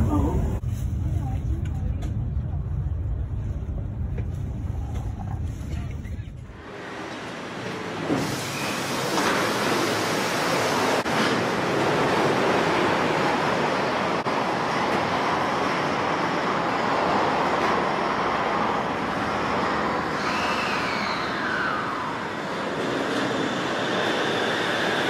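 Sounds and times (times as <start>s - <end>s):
monorail train hum: 0.0s - 25.0s.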